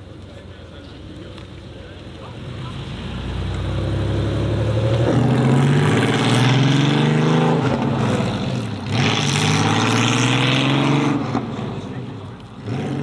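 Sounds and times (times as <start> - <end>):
car engine accelerating: 0.2 - 13.0.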